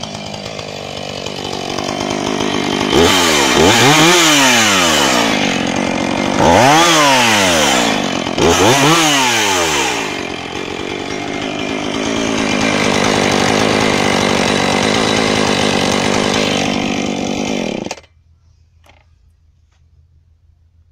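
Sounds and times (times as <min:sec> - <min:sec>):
chainsaw engine running: 0:00.0 - 0:18.1.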